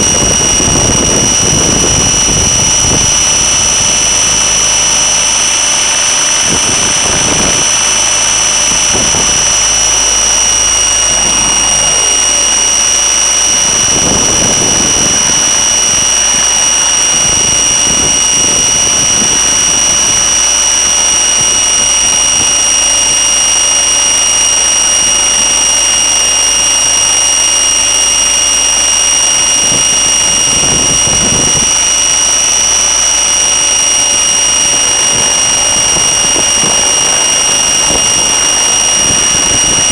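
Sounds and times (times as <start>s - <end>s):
high-pitched electric motor whine: 0.0s - 39.9s
rotor wash wind rumble: 0.0s - 39.9s.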